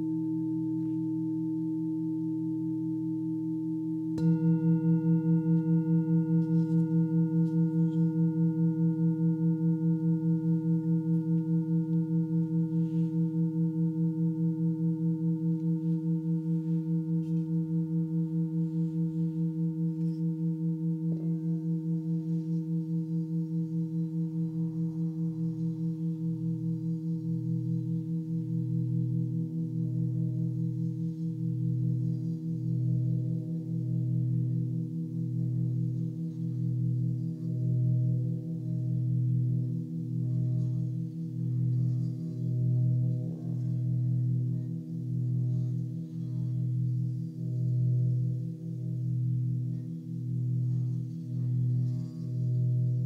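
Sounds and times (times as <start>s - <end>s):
singing bowl ringing: 0.0s - 53.0s.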